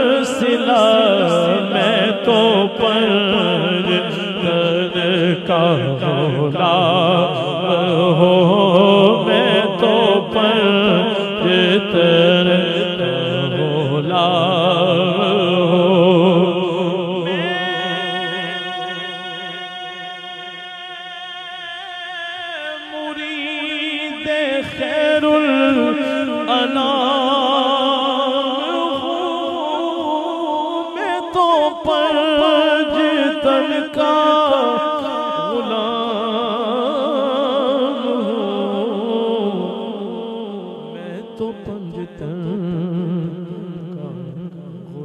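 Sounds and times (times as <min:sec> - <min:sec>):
man singing over a pa system: 0:00.0 - 0:45.0.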